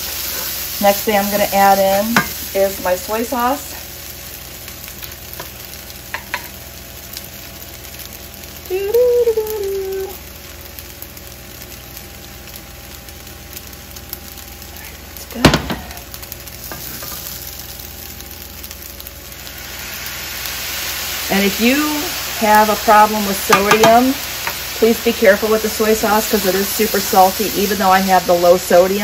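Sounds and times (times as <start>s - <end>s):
fried rice sizzling in a skillet: 0.0s - 29.0s.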